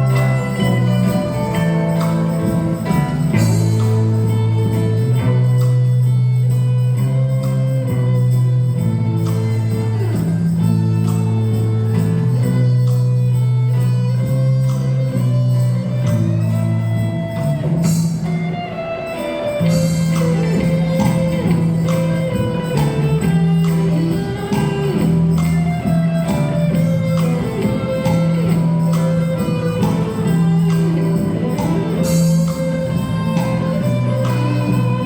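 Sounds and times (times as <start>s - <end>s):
jingling percussion: 0.0s - 35.0s
plucked strings: 0.0s - 35.0s
stepping melody: 0.0s - 35.0s.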